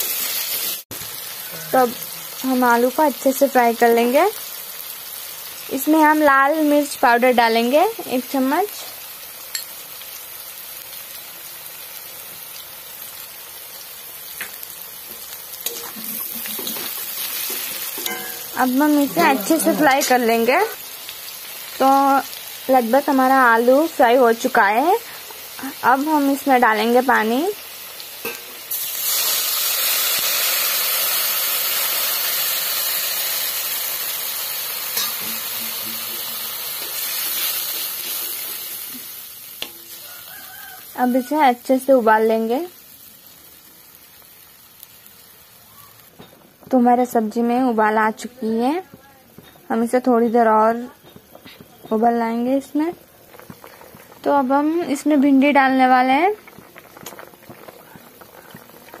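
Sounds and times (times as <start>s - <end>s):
food frying in hot oil: 0.0s - 59.0s.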